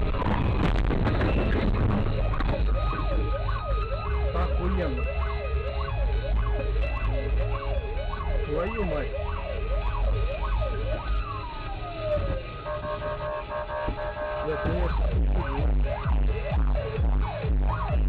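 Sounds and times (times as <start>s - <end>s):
car engine and road rumble: 0.0s - 18.0s
fire engine siren wailing: 0.0s - 18.0s.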